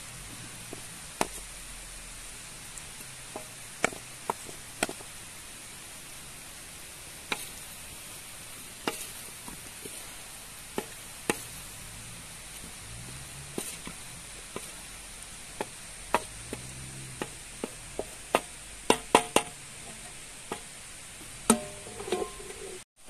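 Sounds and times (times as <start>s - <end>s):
food sizzling in a metal pan: 0.0s - 22.8s.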